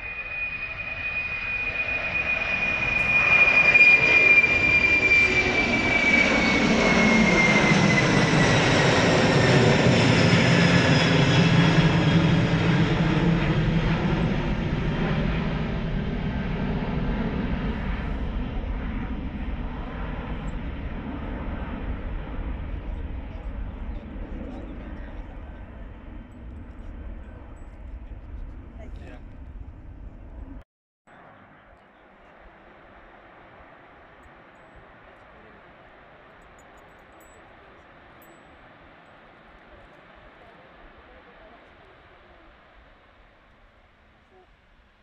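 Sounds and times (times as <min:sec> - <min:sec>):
deep jet engine roar: 0:00.0 - 0:43.8
jet engine whine: 0:00.0 - 0:45.0.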